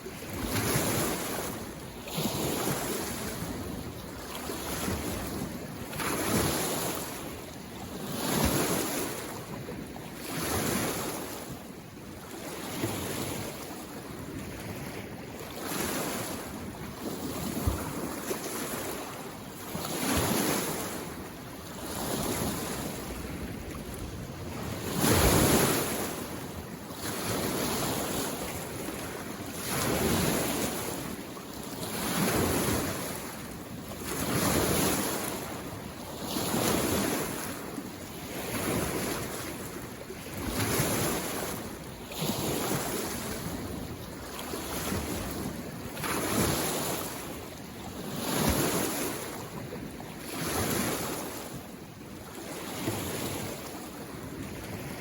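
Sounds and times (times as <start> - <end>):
small waves washing on shore: 0.0 - 55.0.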